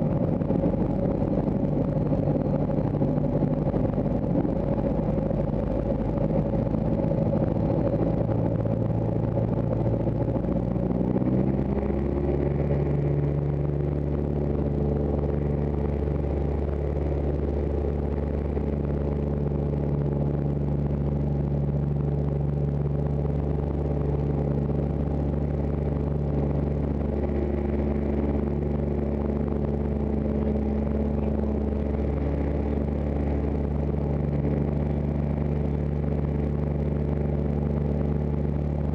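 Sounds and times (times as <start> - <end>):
aircraft piston engine and propeller: 0.0 - 38.9.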